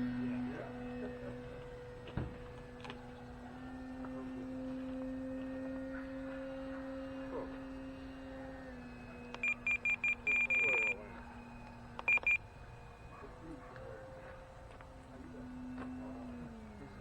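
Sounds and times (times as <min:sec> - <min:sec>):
model airplane motor droning: 0:00.0 - 0:17.0.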